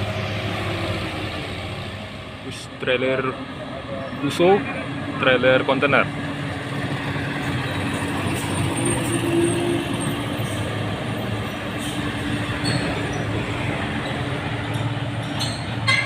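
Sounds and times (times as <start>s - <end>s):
truck diesel engine passing: 0.0s - 16.0s
tyre and road noise: 0.0s - 16.0s.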